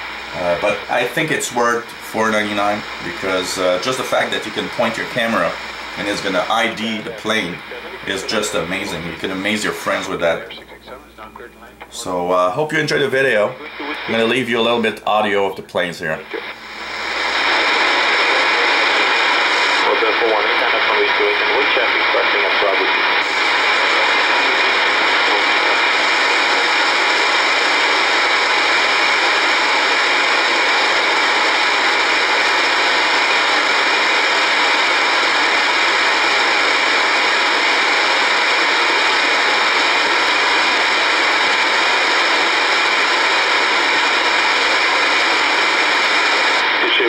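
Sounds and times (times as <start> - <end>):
radio receiver static hiss: 0.0 - 47.0.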